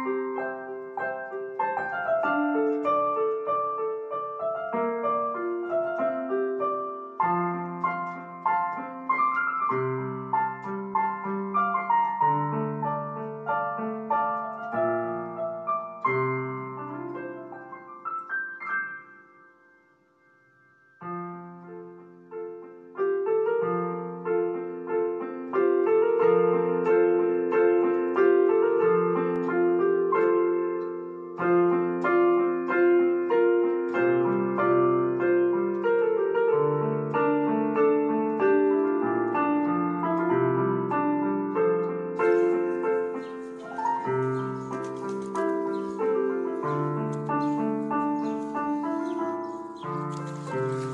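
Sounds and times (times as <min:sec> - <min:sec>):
piano music: 0:00.0 - 0:50.9.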